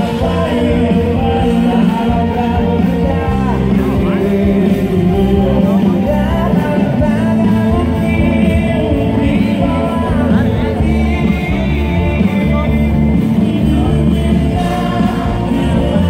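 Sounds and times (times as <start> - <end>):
live band playing with keyboard: 0.0 - 16.0
man singing into microphone: 0.0 - 16.0.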